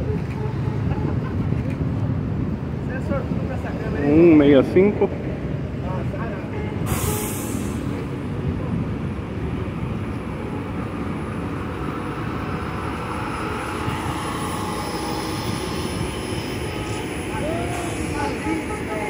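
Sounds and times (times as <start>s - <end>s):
electric bus whirring past: 0.0s - 19.0s.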